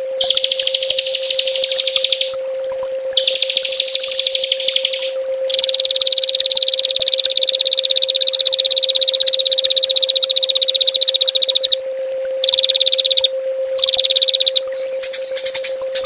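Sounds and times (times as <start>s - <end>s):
steady low hum: 0.0s - 16.0s
songbird fast trills: 0.2s - 2.4s, 3.2s - 11.8s, 12.4s - 16.0s.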